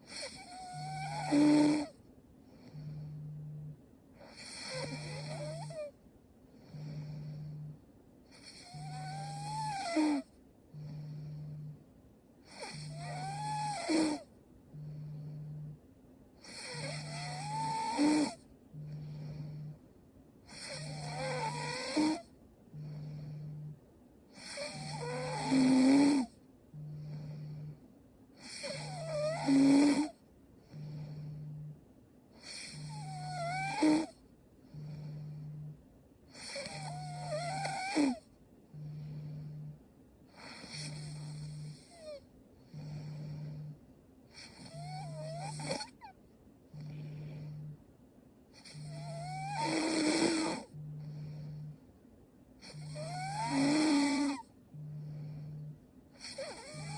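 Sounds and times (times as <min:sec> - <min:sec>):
woman snoring: 0:00.0 - 0:11.8, 0:12.4 - 0:47.9, 0:48.5 - 0:51.9, 0:52.6 - 0:56.9
faint breathing: 0:00.0 - 0:56.9.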